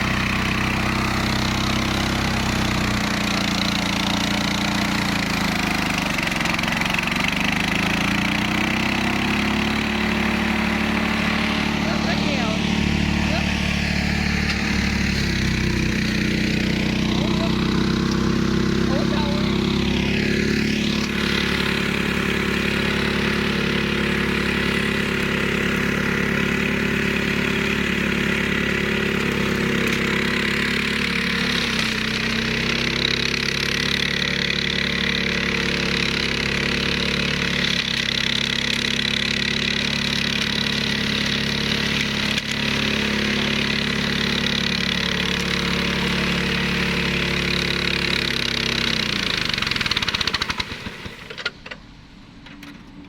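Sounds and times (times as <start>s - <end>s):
mower engine running: 0.0s - 53.0s.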